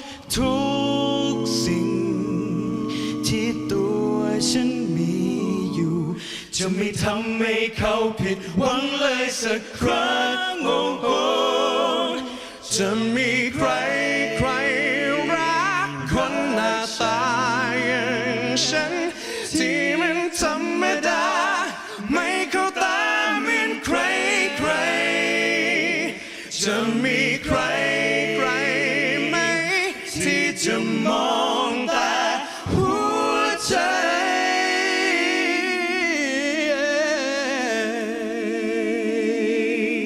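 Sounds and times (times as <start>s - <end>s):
voices singing in harmony: 0.0s - 40.0s.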